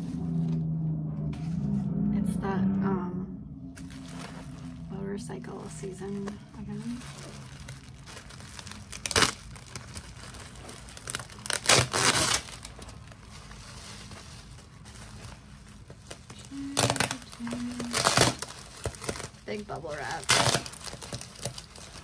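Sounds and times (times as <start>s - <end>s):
plastic packaging crinkling and tearing: 3.8s - 22.0s.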